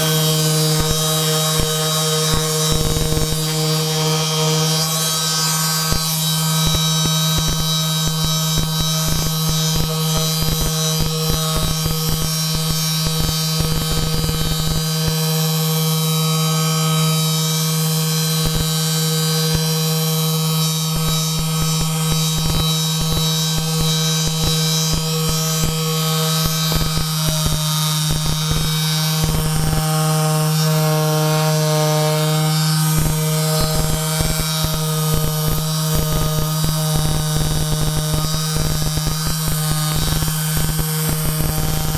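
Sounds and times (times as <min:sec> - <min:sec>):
loud electric hum: 0:00.0 - 0:41.9.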